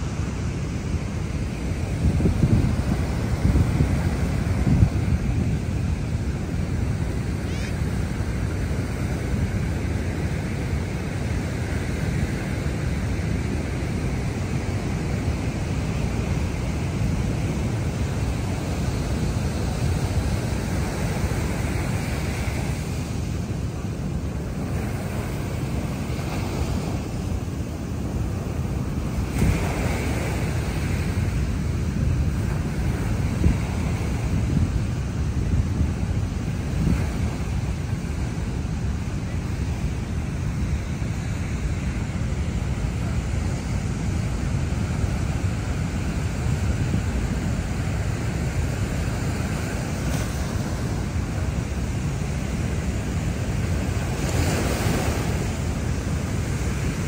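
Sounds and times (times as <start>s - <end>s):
waves washing onto beach: 0.0s - 57.0s
wind rumbling on microphone: 0.0s - 57.0s.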